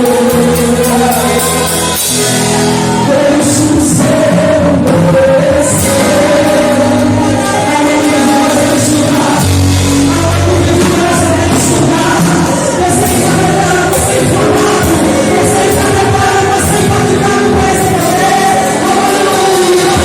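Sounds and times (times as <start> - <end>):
worship singing over band: 0.0 - 20.0.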